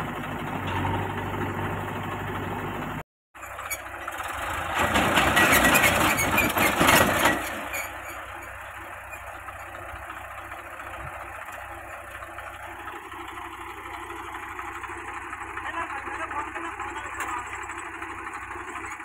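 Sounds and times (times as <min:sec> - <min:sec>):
diesel engines idling: 0:00.0 - 0:19.0.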